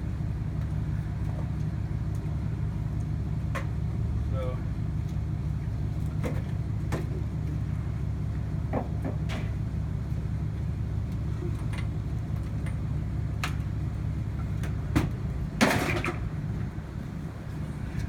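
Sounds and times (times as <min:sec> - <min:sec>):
low engine-like rumble: 0:00.0 - 0:18.0.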